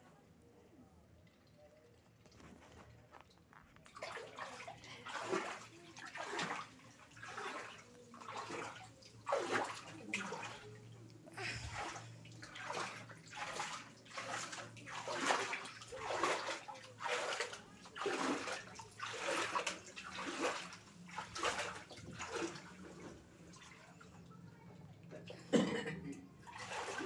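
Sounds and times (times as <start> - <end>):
floodwater sloshing: 2.2 - 24.9, 26.4 - 27.0.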